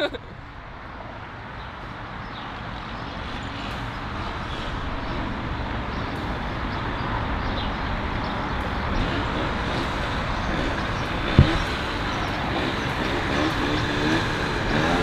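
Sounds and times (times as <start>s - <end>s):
rushing wind: 0.0s - 15.0s
vehicle noise: 0.0s - 15.0s.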